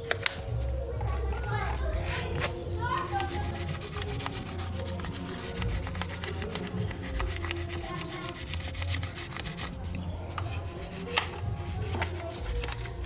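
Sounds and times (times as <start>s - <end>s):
toothbrush scrubbing metal: 1.2s - 13.0s.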